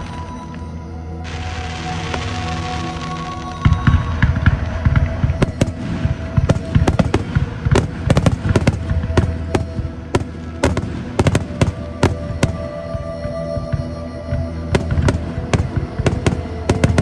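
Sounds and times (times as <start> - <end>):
continuous low rumble: 0.0 - 17.0
fireworks cracks and booms: 1.2 - 13.9, 14.7 - 17.0.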